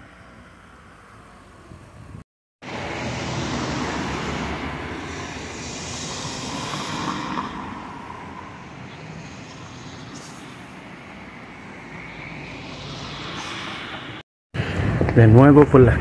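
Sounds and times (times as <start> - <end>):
vehicle rushing by: 0.0 - 16.0.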